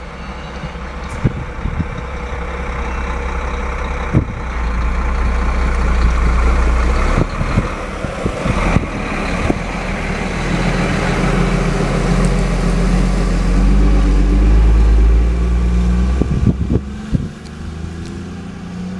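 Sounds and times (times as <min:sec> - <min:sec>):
low rumble: 0:00.0 - 0:18.6
heavy truck engine running: 0:00.0 - 0:18.9.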